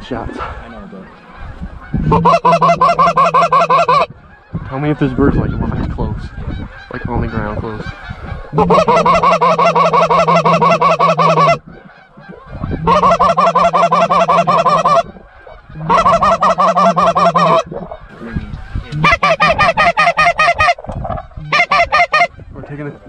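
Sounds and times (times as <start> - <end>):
goose call honks: 0.6 - 22.3.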